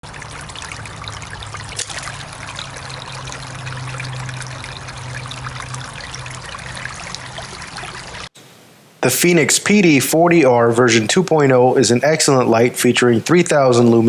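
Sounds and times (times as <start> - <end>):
low steady hum: 0.0 - 14.0
water trickling and splashing: 0.0 - 14.0.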